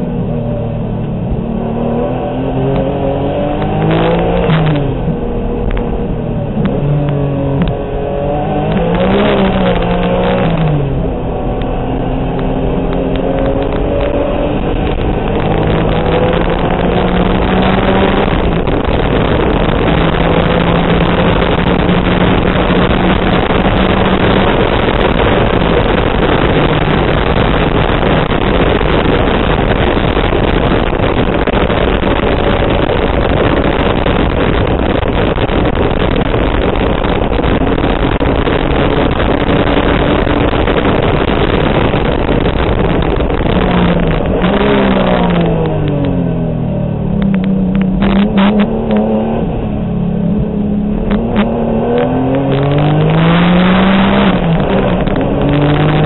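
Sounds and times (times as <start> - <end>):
race car engine revving: 0.0 - 56.0
wind and road noise: 0.0 - 56.0.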